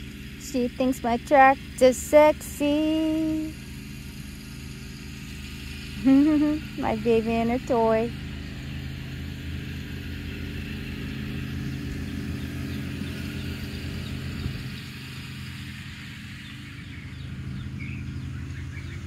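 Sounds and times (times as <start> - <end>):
lawn tractor engine running: 0.0 - 19.0.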